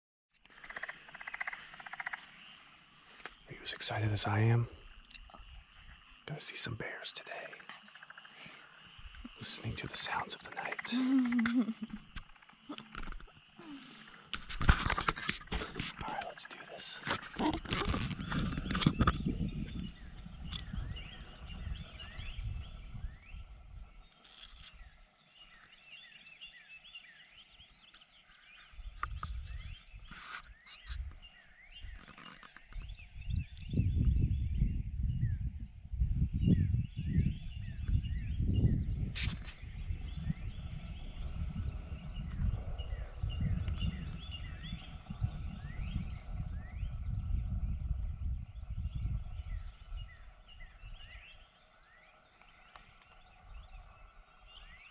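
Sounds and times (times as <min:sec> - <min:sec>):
frogs chirping: 0:00.4 - 0:54.9.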